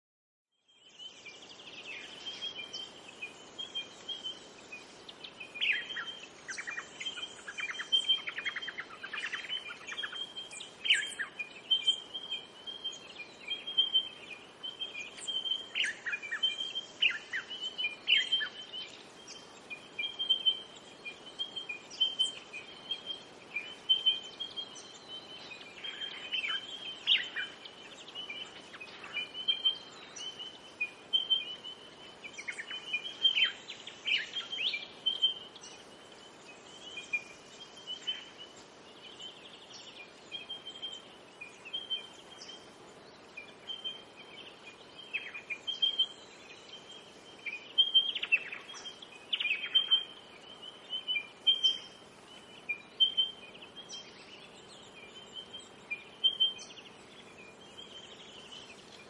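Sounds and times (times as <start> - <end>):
birds chirping: 0.6 - 59.0
faint steady hiss: 0.6 - 59.0.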